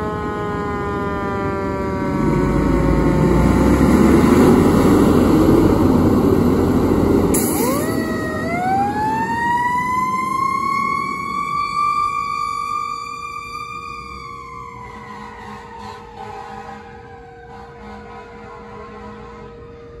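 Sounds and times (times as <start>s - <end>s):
siren wailing: 0.0s - 6.5s, 7.3s - 20.0s
fire engine diesel engine: 0.0s - 20.0s.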